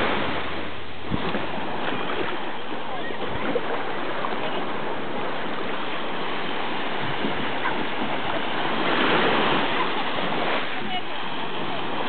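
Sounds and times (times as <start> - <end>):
small waves washing on sand: 0.0 - 12.0.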